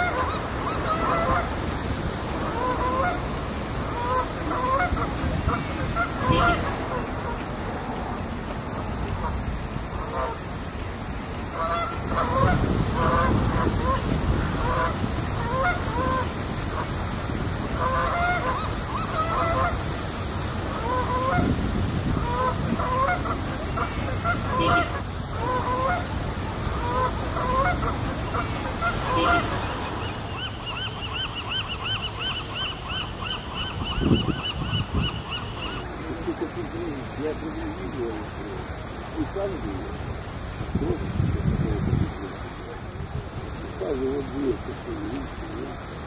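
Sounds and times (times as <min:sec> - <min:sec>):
large birds honking: 0:00.0 - 0:10.6, 0:11.4 - 0:39.4.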